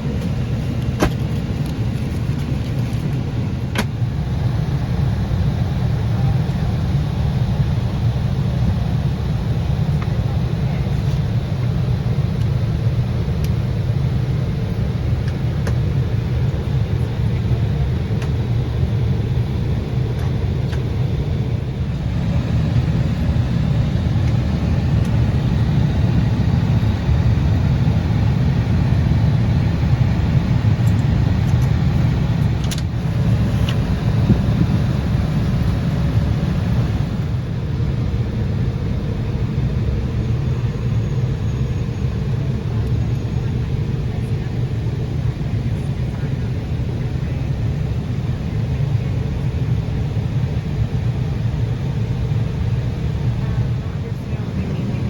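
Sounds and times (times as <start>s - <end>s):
jet cabin rumble: 0.0s - 55.0s.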